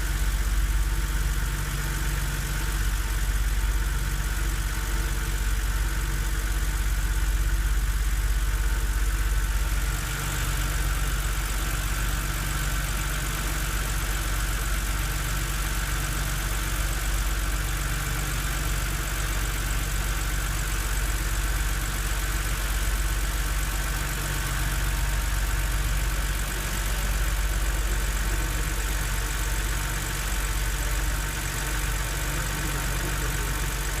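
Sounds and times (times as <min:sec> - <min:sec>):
car engine idling with knock: 0:00.0 - 0:34.0.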